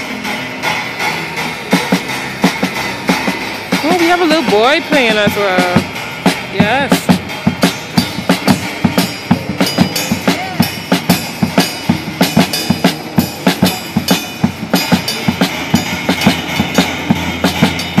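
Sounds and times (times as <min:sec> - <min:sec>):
drums and cellos playing: 0:00.0 - 0:18.0
drums and cymbal beat: 0:00.0 - 0:18.0.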